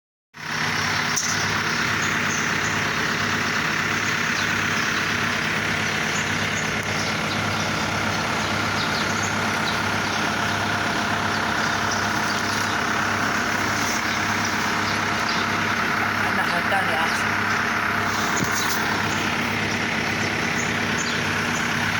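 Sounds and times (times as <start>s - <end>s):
diesel engine running: 0.4s - 21.9s.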